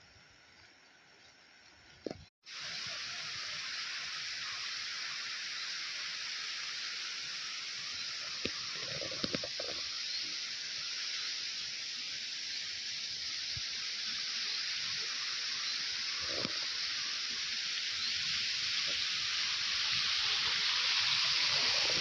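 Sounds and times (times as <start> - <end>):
flowing water rushing: 2.5 - 22.0.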